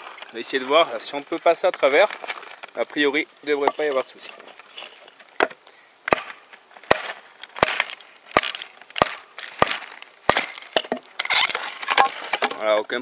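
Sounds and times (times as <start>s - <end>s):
wood cracking and splitting: 1.1s - 13.0s.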